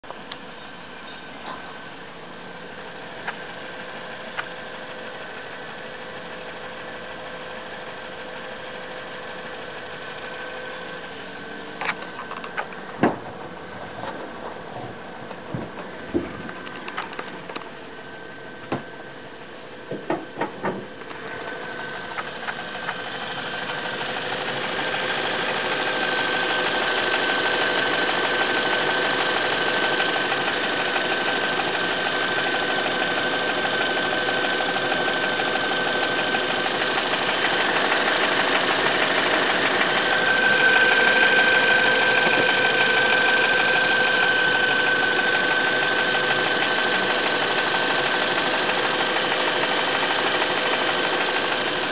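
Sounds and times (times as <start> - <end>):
car engine running with rattle: 0.1 - 51.9.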